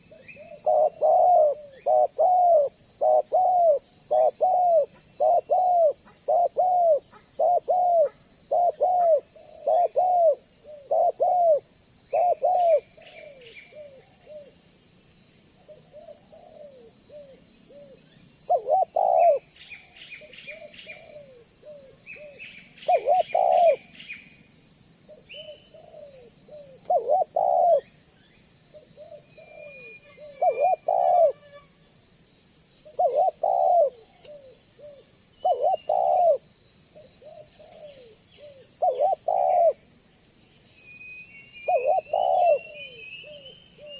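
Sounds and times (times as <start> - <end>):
dove cooing: 0.0 - 14.5, 15.7 - 19.5, 20.2 - 23.9, 25.1 - 27.9, 28.7 - 31.4, 32.8 - 36.4, 37.0 - 39.8, 41.6 - 43.9.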